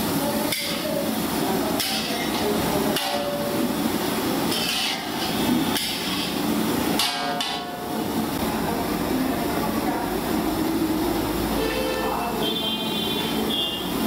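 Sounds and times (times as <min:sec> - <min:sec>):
busy background noise: 0:00.0 - 0:14.0.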